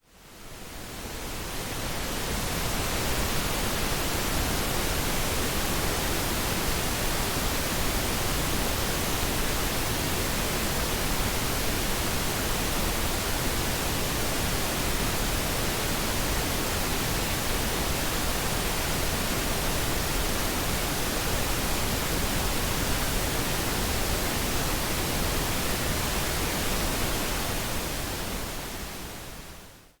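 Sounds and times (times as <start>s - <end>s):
pink noise hiss: 0.0s - 30.0s.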